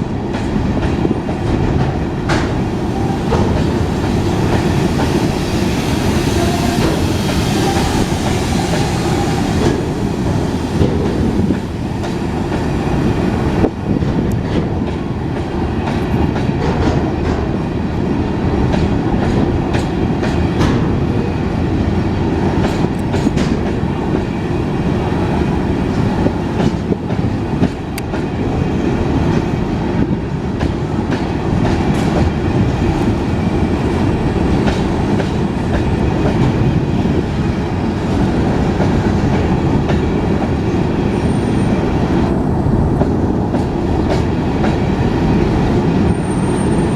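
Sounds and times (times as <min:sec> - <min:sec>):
train wagons rumbling: 0:00.0 - 0:46.9.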